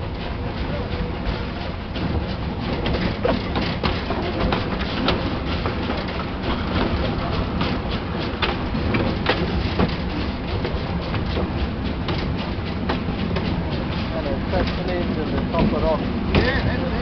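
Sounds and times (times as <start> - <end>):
train rumble and rattle: 0.0 - 17.0
wheels clicking and knocking: 0.0 - 17.0.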